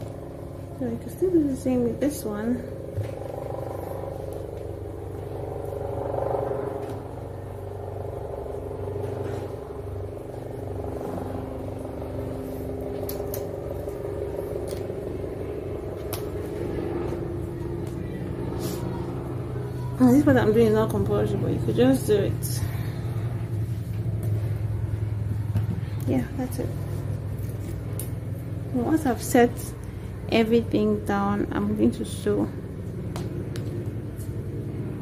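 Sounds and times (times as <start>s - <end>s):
engine humming: 0.0s - 35.0s.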